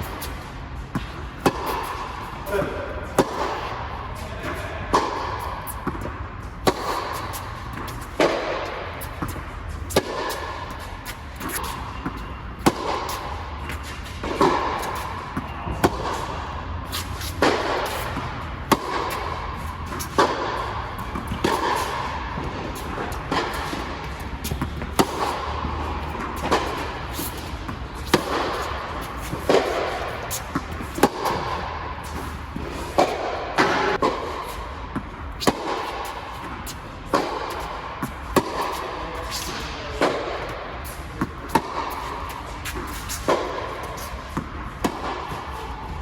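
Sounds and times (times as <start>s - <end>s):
tennis ball bouncing on court: 0.0s - 46.0s
tennis ball struck by racquets: 0.0s - 46.0s.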